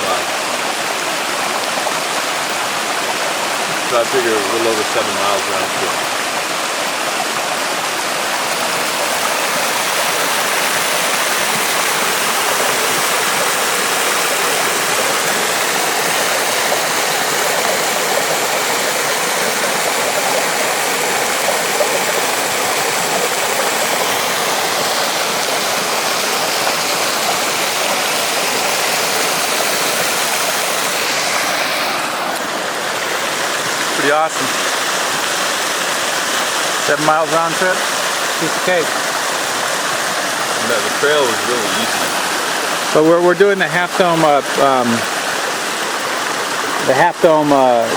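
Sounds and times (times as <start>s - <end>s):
waterfall pouring over rocks: 0.0s - 47.9s.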